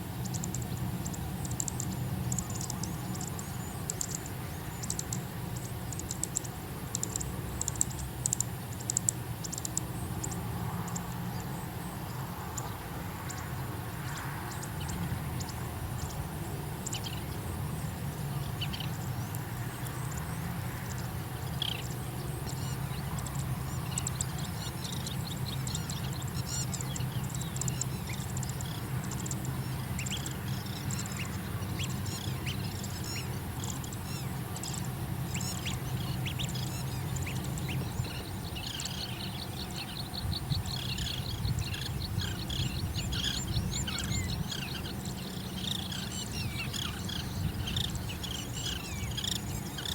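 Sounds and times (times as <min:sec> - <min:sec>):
birds chirping: 0:00.2 - 0:49.9.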